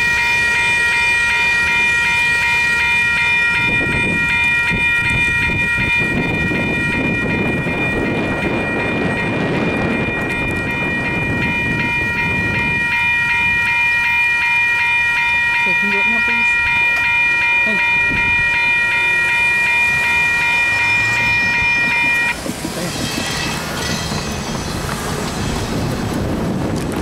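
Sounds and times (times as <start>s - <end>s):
crossing bell ringing: 0.0s - 26.2s
train wheels rumbling and clacking: 0.0s - 27.0s.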